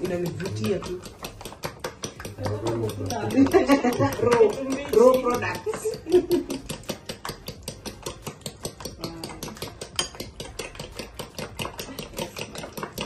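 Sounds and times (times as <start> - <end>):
fork beating eggs in bowl: 0.0 - 13.0.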